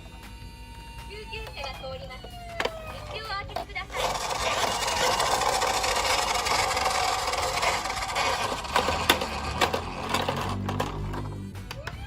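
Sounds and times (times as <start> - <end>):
toy car motor whirring: 1.4 - 12.0.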